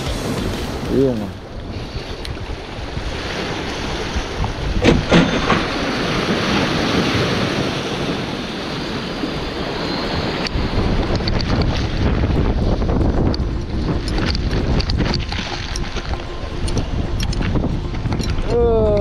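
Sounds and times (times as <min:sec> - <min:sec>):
sea waves washing over rocks: 0:00.0 - 0:19.0
wind buffeting microphone: 0:00.0 - 0:19.0.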